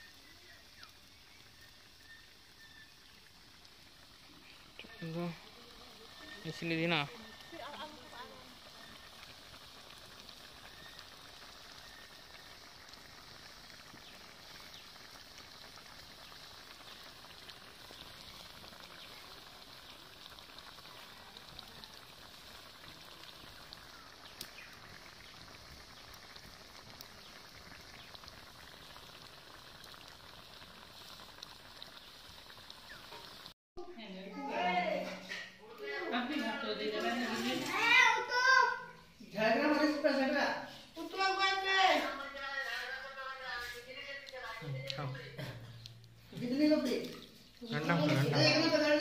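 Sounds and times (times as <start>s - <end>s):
curry simmering with pops: 0.0s - 33.6s, 34.4s - 49.0s.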